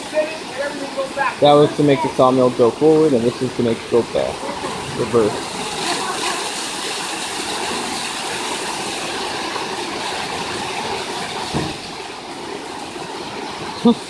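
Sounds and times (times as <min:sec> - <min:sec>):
water rushing through wheel: 0:00.0 - 0:14.0.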